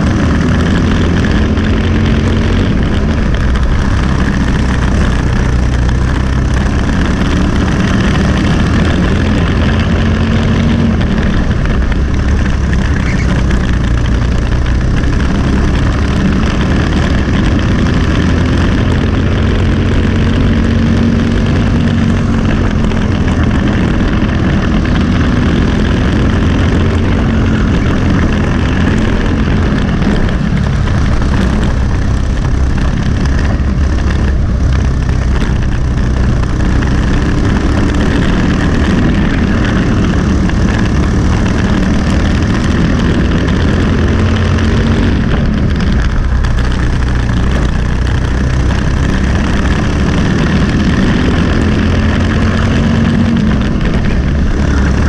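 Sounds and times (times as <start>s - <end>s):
kart engine running: 0.0s - 55.0s
wind noise rushing: 0.0s - 55.0s.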